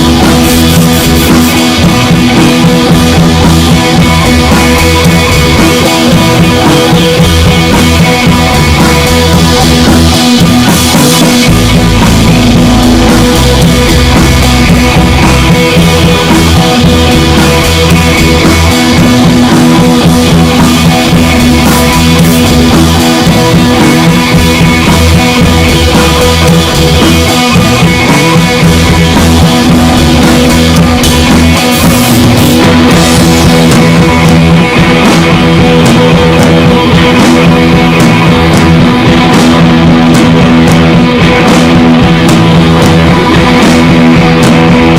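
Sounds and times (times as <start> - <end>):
rock music with guitar and drums: 0.0 - 44.9.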